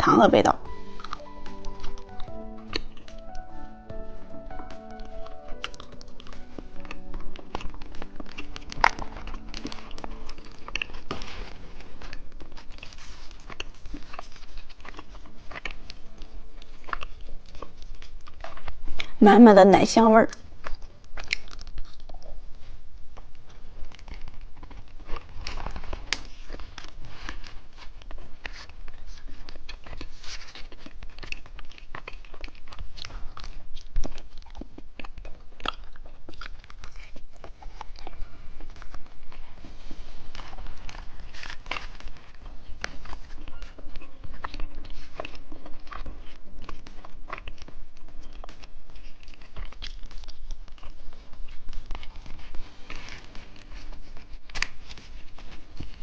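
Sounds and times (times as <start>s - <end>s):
biting and chewing candy: 0.0s - 56.0s.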